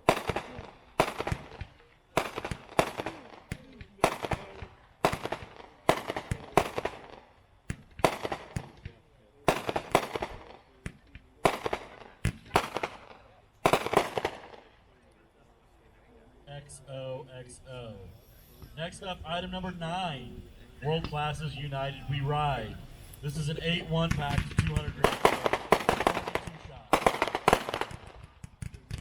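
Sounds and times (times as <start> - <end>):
fireworks cake firing sharp reports: 0.0 - 15.0, 17.4 - 29.0.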